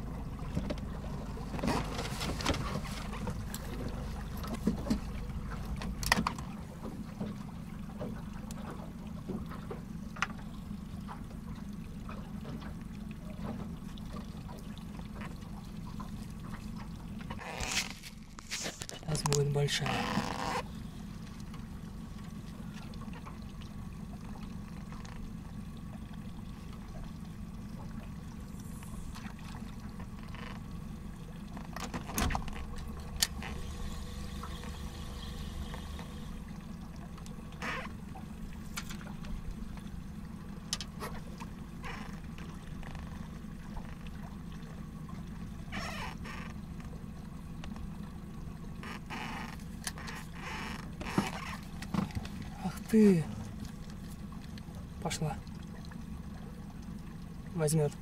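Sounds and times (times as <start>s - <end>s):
water lapping against boat hull: 0.0s - 58.0s.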